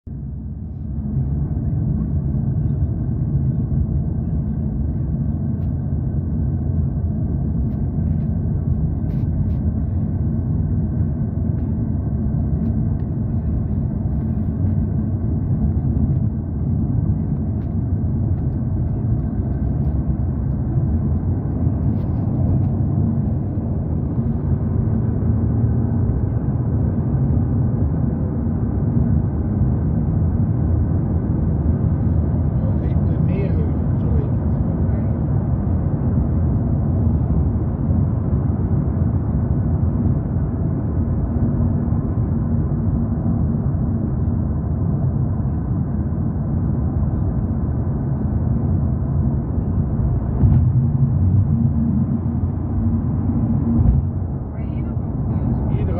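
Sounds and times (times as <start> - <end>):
car road and engine rumble: 0.0 - 55.9
faint steady hum: 0.1 - 55.9.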